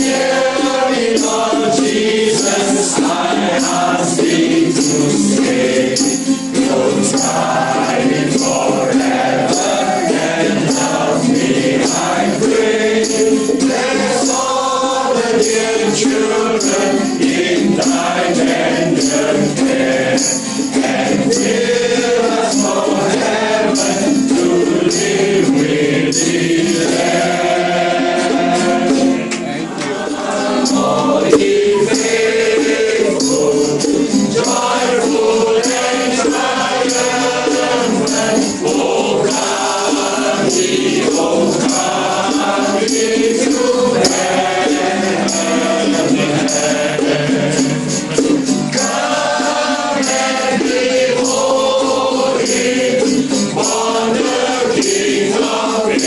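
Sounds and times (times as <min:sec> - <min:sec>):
group singing a carol: 0:00.0 - 0:56.0.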